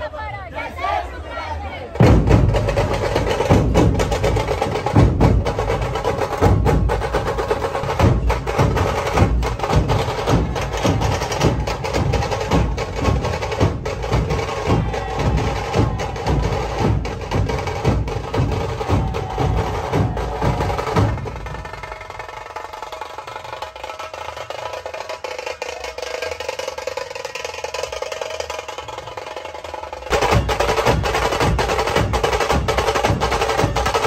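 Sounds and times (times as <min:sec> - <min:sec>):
dhol drums deep strikes: 0:02.0 - 0:29.0, 0:29.6 - 0:34.0.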